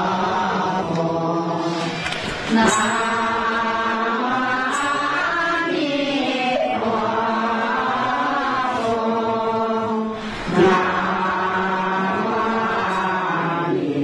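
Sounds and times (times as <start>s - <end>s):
person chanting: 0.0s - 14.0s.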